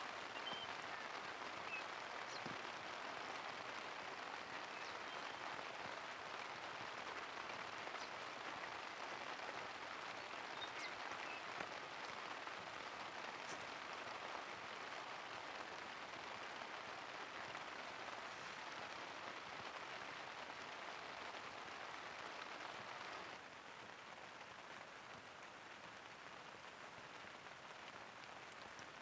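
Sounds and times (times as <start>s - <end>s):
rain on a tent: 0.0s - 29.0s.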